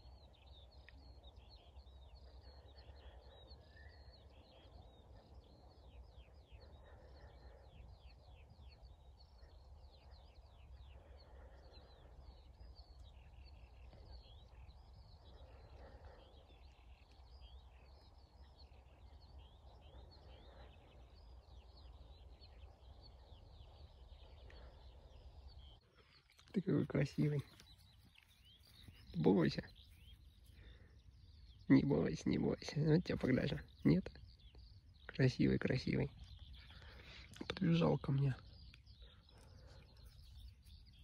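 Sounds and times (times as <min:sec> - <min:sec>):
small birds twittering: 0:00.0 - 0:41.0.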